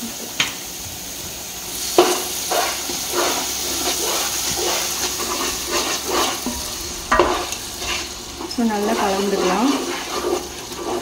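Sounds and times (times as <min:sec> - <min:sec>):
food sizzling in a pot: 0:00.0 - 0:11.0
spatula stirring and scraping: 0:01.9 - 0:11.0.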